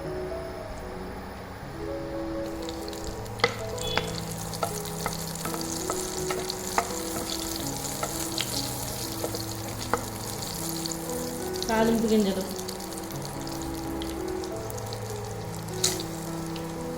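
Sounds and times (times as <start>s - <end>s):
food sizzling in a pan: 2.4s - 16.9s.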